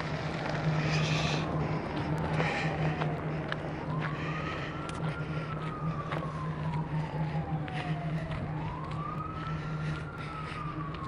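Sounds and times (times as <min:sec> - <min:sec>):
siren wailing: 0:00.0 - 0:11.0
steady low hum: 0:00.0 - 0:11.0.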